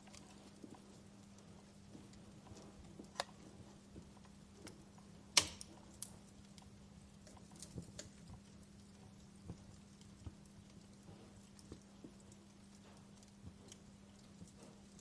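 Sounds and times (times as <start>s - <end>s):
faint low hum: 0.0s - 15.0s
wood fire crackling: 0.0s - 15.0s.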